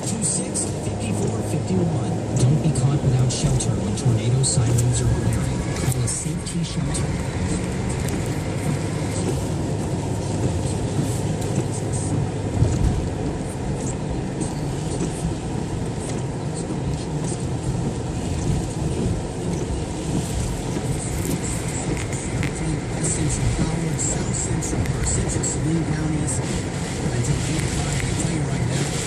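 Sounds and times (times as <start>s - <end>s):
car engine rumbling: 0.0s - 29.0s
strong storm wind: 0.0s - 29.0s.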